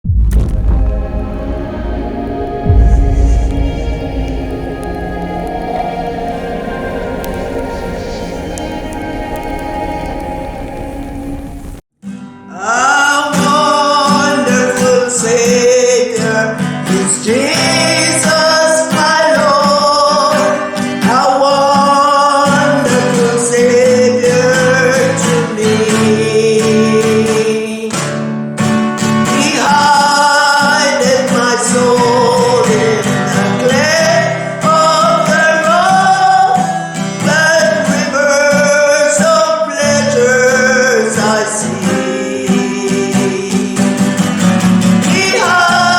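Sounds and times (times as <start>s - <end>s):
plucked guitar: 0.0s - 11.4s, 12.0s - 45.9s
person singing: 0.9s - 11.2s, 12.5s - 28.1s, 29.2s - 45.9s.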